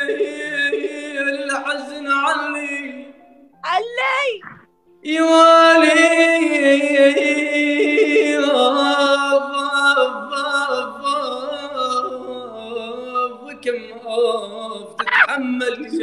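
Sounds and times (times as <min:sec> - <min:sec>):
person singing unaccompanied: 0:00.0 - 0:03.3, 0:05.0 - 0:16.0.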